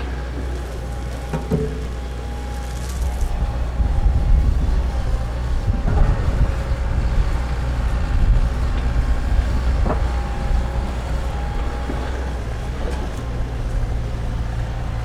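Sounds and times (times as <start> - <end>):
excavator diesel engine droning: 0.0 - 15.0.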